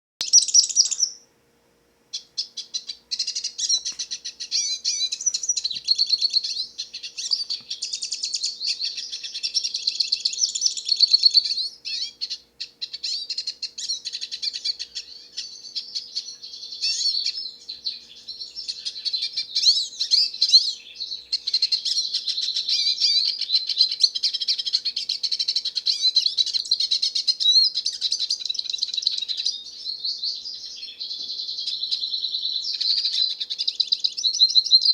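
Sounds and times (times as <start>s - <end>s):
bird twittering song: 0.2s - 1.3s, 2.1s - 34.9s.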